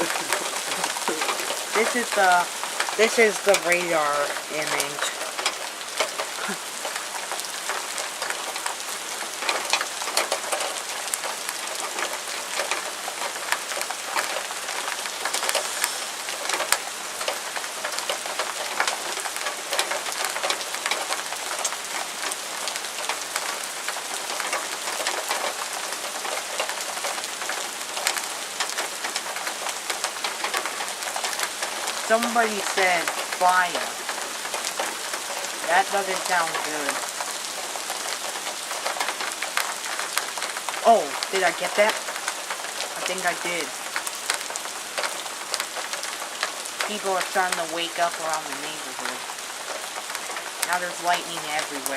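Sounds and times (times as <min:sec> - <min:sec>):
heavy rain on hard surfaces: 0:00.0 - 0:51.9.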